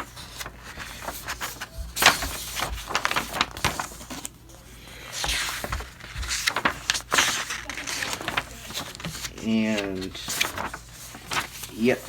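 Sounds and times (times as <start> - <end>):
paper and packaging rustling: 0.0 - 12.0.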